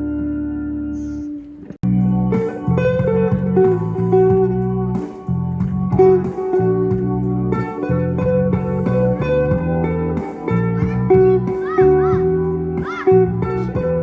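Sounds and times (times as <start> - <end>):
electric guitar melody: 0.0 - 14.0
low bass notes: 0.0 - 14.0.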